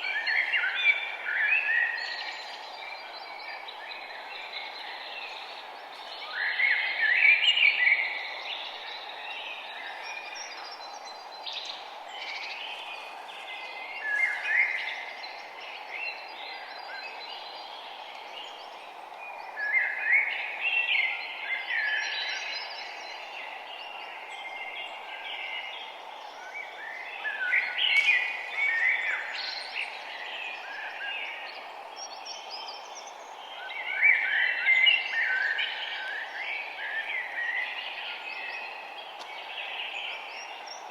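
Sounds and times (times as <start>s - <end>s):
songbird singing: 0.0s - 40.9s
steady background hiss: 0.0s - 40.9s.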